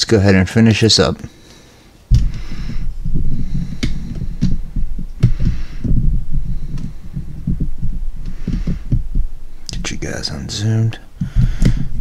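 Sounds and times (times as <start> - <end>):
low thumps and rumbling: 1.3 - 12.0.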